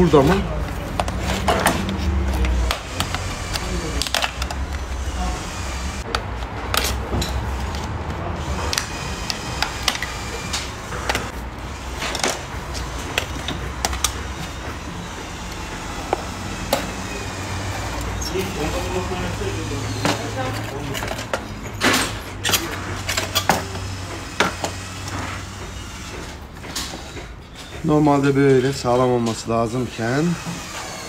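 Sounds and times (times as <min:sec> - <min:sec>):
tools and metal parts clicking: 0:00.0 - 0:05.2, 0:06.0 - 0:31.0.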